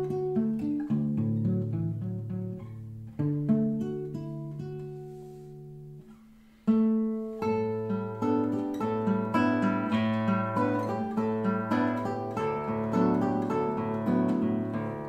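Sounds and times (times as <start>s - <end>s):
fingerpicked classical guitar: 0.0s - 15.0s.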